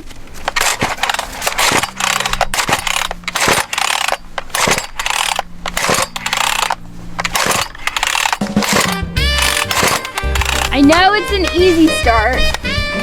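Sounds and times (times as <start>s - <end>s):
chainsaw recoil starter pulled: 0.0s - 12.7s.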